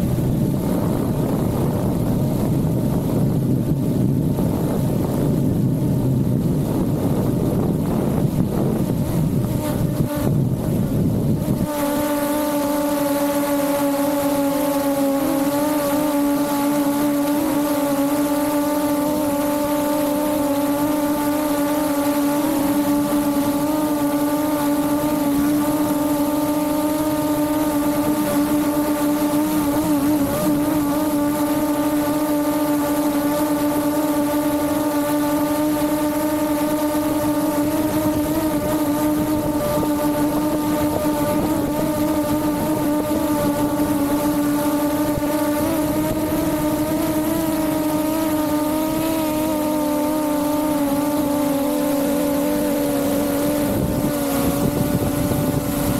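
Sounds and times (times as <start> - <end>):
drone propellers buzzing: 0.0 - 55.9.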